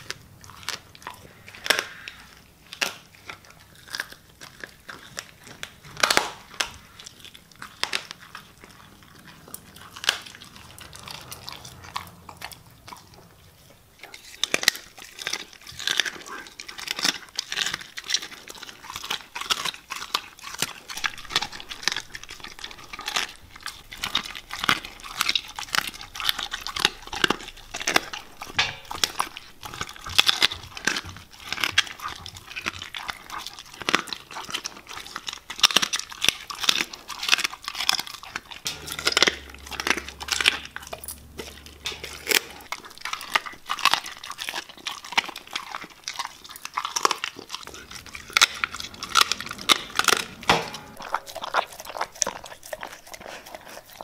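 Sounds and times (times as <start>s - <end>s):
dog chewing and lapping: 0.0s - 54.0s.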